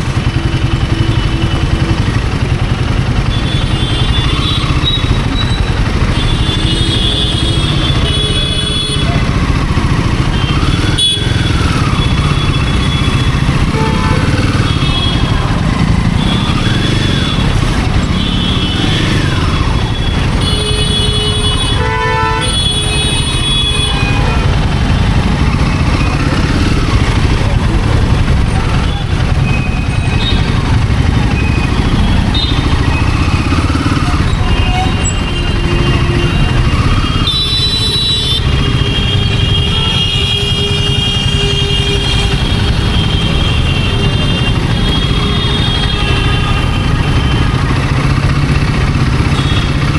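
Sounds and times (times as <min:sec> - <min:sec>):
motorcycle engine running: 0:00.0 - 0:49.9
road and wind noise: 0:00.0 - 0:49.9
vehicle horn honking: 0:03.2 - 0:26.4, 0:28.2 - 0:47.8, 0:49.2 - 0:49.9.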